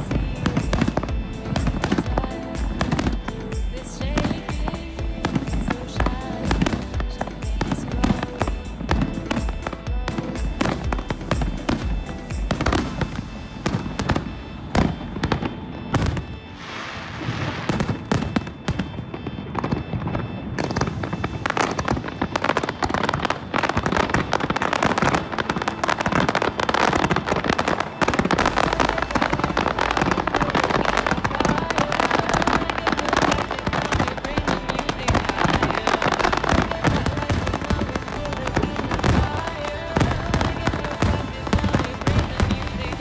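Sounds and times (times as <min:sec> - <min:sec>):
fireworks bangs and crackling: 0:00.0 - 0:43.0
music playing: 0:00.0 - 0:43.0.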